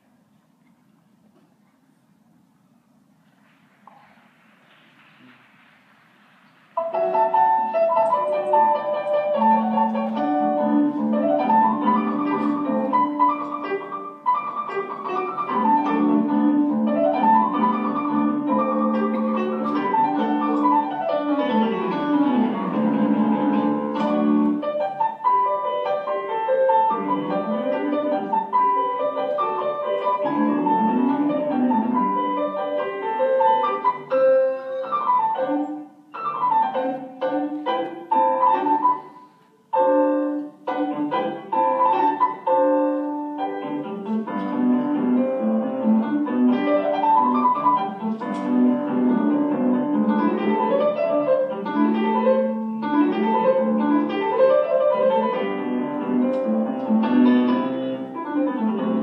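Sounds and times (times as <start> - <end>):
digital piano music: 6.8 - 59.0.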